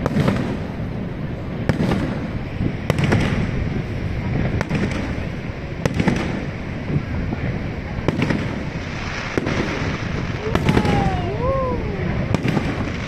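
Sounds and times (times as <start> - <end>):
fireworks bangs: 0.0 - 13.0
steady low rumble: 0.0 - 13.0.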